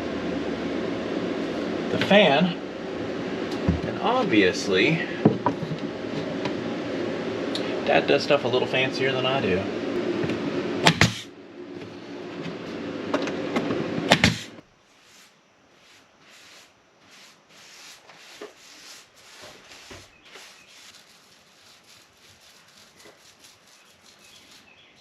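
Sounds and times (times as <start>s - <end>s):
range hood fan running: 0.0s - 15.2s, 15.8s - 25.0s.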